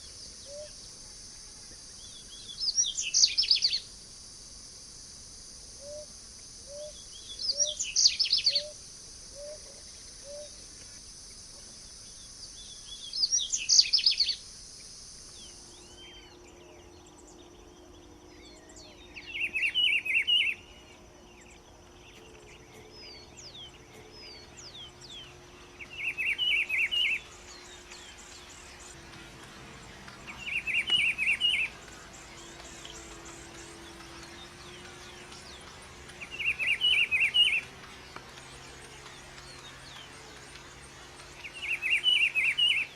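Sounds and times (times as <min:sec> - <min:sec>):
songbirds singing: 0:00.0 - 0:04.1, 0:05.7 - 0:42.9
high insect-like hiss: 0:00.0 - 0:42.9.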